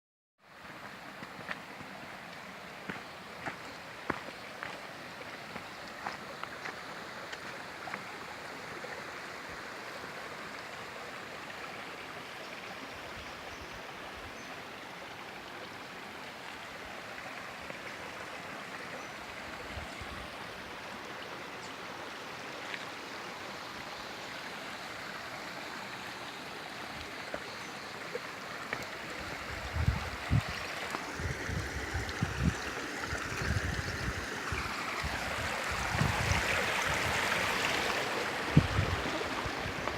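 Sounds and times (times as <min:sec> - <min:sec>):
stream water rushing: 0:00.4 - 0:39.9.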